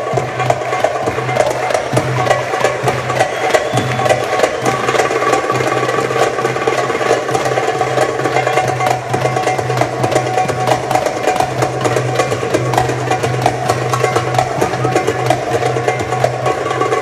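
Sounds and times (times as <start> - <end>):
pitched musical accompaniment: 0.0 - 17.0.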